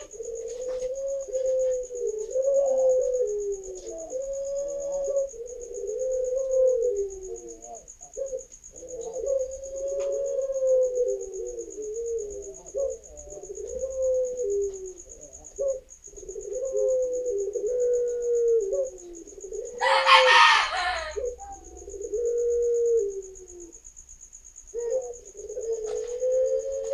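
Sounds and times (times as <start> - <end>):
doves cooing: 0.0 - 24.0, 24.6 - 26.9
pulsing insect trill: 0.0 - 26.9.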